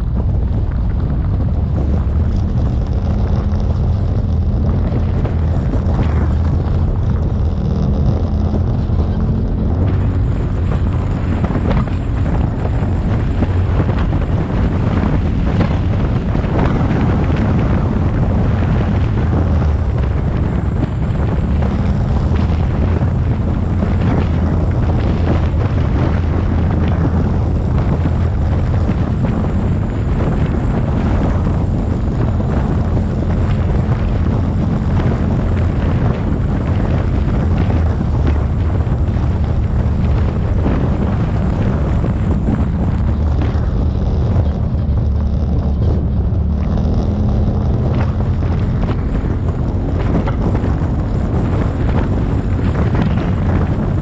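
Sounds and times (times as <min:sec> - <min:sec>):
off-road vehicle engine drone: 0:00.0 - 0:54.0
wind buffeting microphone: 0:00.0 - 0:54.0.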